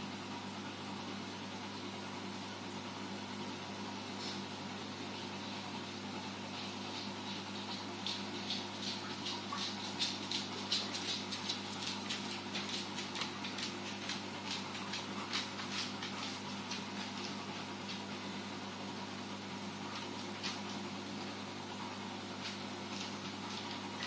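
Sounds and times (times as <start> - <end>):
aquarium equipment humming: 0.0 - 24.0.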